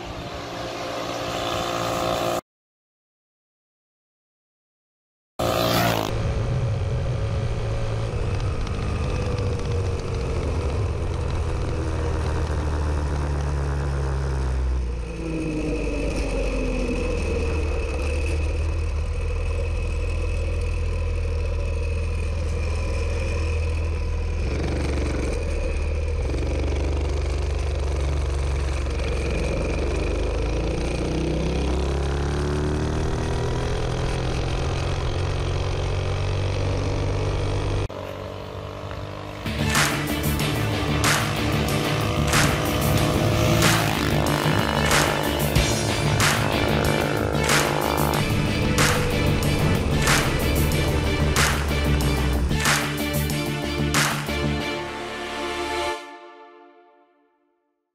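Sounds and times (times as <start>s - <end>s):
minibike engine running hard: 0.0s - 2.4s, 5.4s - 54.6s.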